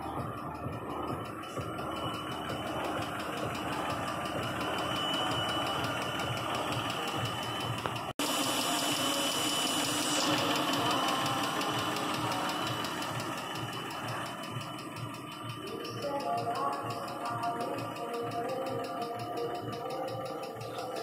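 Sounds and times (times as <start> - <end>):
car engine idling: 0.0 - 21.0
fast valvetrain ticking: 0.0 - 21.0.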